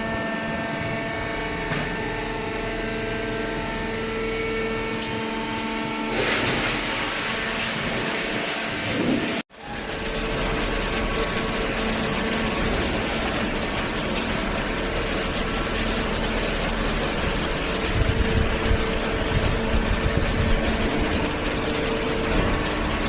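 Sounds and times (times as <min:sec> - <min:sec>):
hydraulic pump motor humming: 0:00.0 - 0:23.0.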